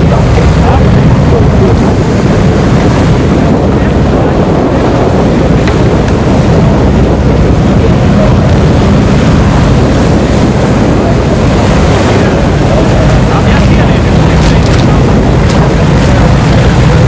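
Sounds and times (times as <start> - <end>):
powerboat engine: 0.0 - 17.0
water rushing: 0.0 - 17.0
wind on microphone: 0.0 - 17.0.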